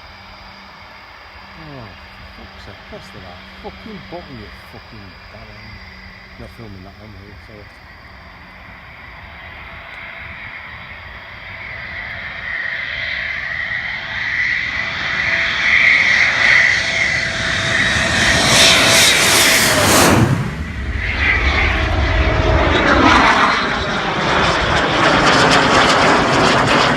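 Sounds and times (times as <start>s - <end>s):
jet flying past: 0.0s - 26.9s.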